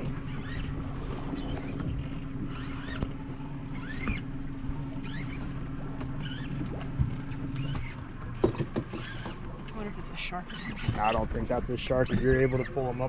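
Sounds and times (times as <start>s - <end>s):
short rising squeaks: 0.0s - 6.8s, 7.5s - 9.4s, 10.4s - 13.0s
boat engine idling: 0.0s - 13.0s.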